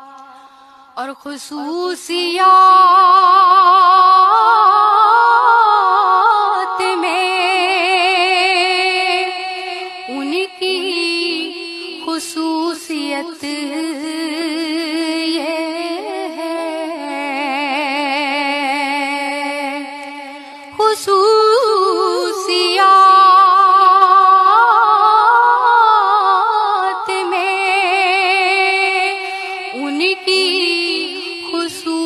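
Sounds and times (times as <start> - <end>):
woman singing with vibrato: 0.0 - 32.0.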